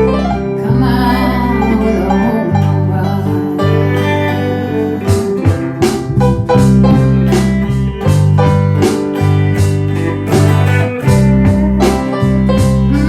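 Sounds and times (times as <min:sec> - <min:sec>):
band playing instrumental: 0:00.0 - 0:13.0.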